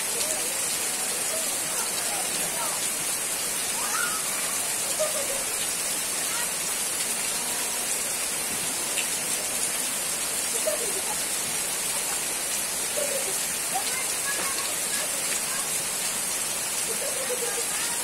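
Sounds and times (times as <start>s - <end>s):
rain falling on plants: 0.0s - 18.0s.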